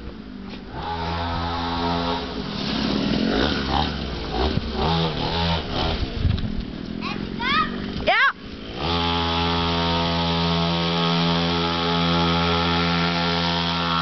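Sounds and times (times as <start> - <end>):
dirt bike engine buzzing: 0.0 - 14.0.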